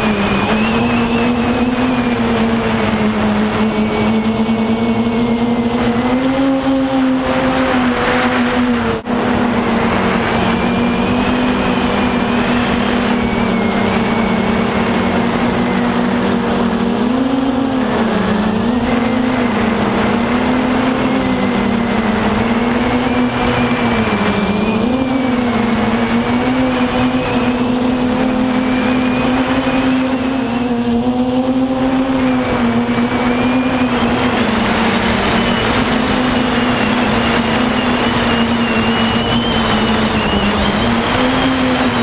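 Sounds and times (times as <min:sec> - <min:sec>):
drone motors buzzing: 0:00.0 - 0:42.0
wind on microphone: 0:00.0 - 0:42.0.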